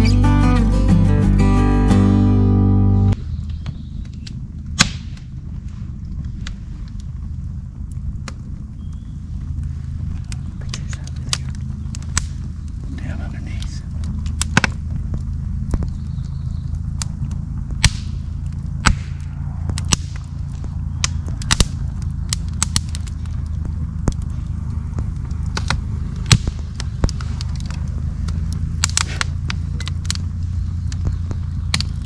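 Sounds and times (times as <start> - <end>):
campfire crackling and popping: 3.1 - 32.0.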